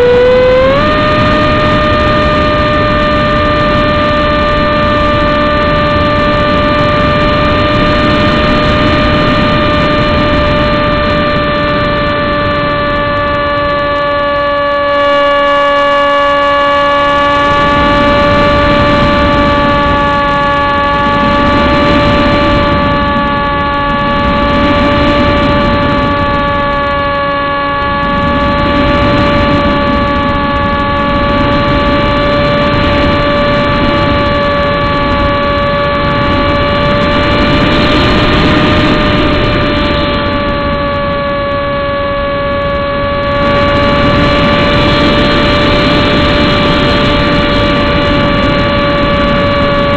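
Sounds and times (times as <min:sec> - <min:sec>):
electric motor high whine: 0:00.0 - 0:49.9
wind rush on microphone: 0:00.0 - 0:49.9.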